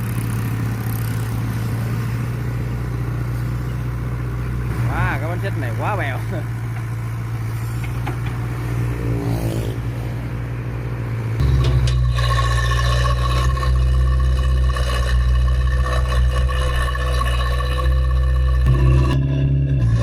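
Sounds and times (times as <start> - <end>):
excavator diesel engine running: 0.0 - 20.0
hydraulic whine: 0.8 - 20.0.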